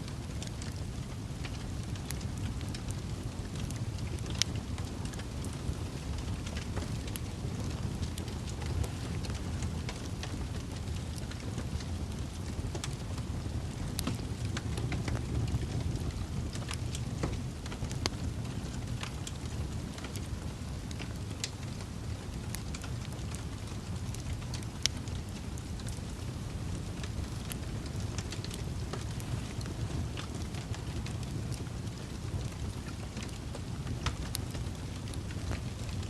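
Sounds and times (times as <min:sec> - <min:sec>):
fire roaring: 0:00.0 - 0:36.0
logs crackling and popping: 0:00.0 - 0:36.0.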